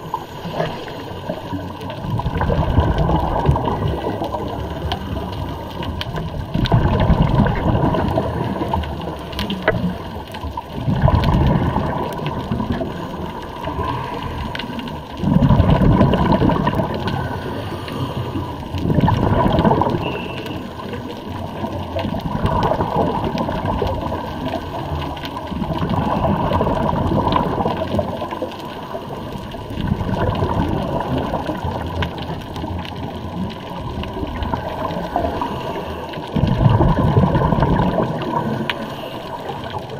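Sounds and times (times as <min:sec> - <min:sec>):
diver exhaling bubbles underwater: 0:00.0 - 0:39.9
steady watery hiss: 0:00.0 - 0:39.9.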